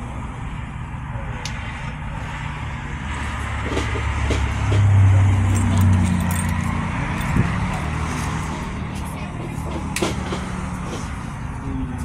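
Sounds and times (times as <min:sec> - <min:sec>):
vehicle engine rumble passing: 0:00.0 - 0:12.0.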